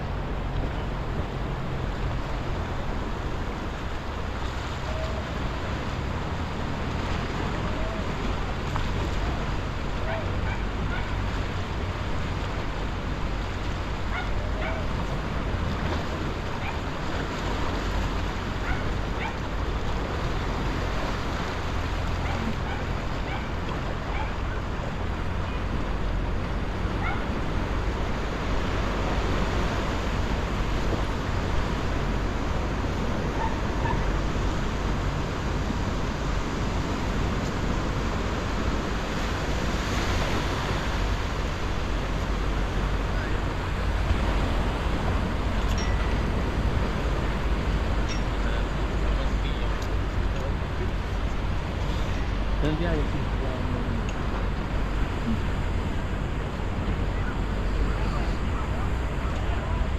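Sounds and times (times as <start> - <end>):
ocean surf washing: 0.0 - 59.9.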